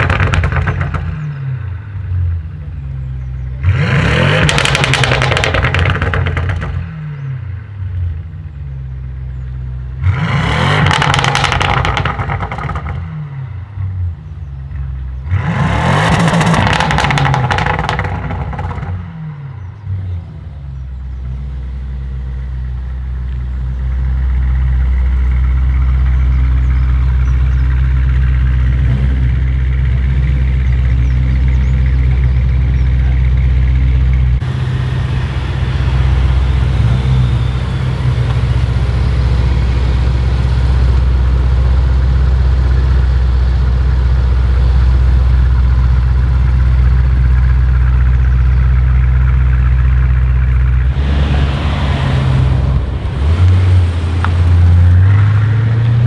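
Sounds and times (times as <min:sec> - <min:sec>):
car engine idling: 0:00.0 - 0:03.7, 0:04.5 - 0:10.1, 0:10.9 - 0:15.4, 0:16.4 - 0:56.0
car pulling away: 0:00.0 - 0:56.0.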